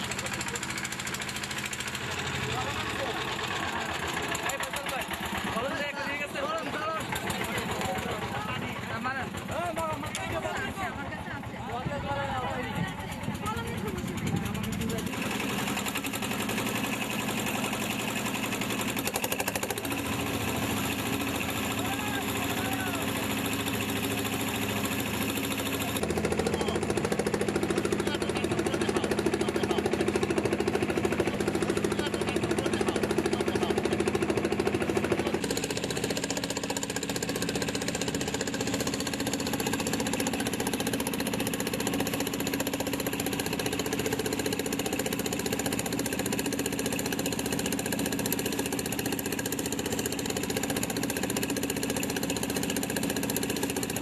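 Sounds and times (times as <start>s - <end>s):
engine running with knocking: 0.0s - 54.0s.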